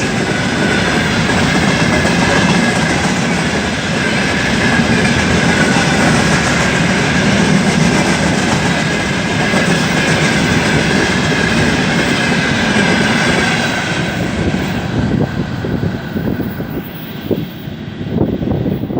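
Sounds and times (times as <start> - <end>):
train wheels clattering: 0.0 - 15.4.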